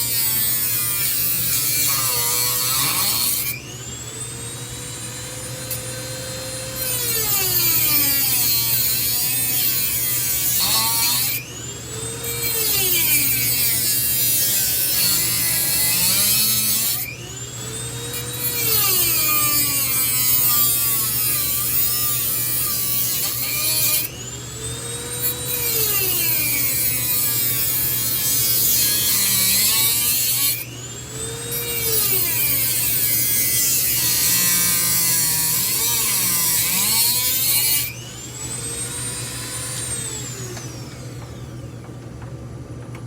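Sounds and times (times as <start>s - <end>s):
power tool grinding metal: 0.0s - 42.0s
motor whine: 0.0s - 43.0s.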